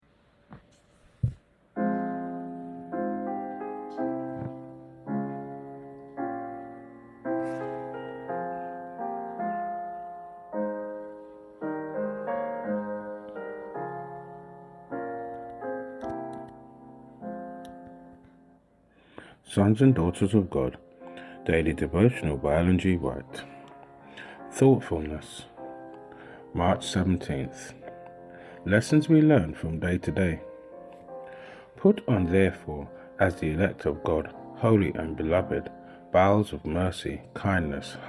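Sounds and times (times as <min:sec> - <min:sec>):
slow solo piano: 0:01.2 - 0:19.3, 0:20.0 - 0:38.0.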